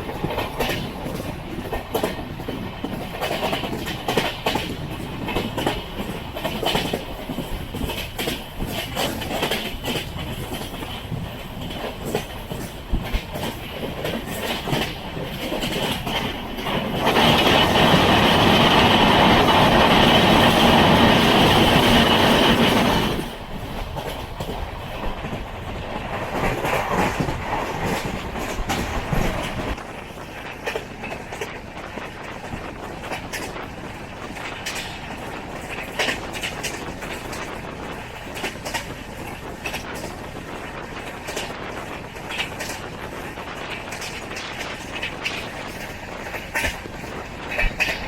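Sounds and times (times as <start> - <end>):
train carriage running on track: 0.0 - 48.0
wheels clicking over rail joints: 0.0 - 48.0.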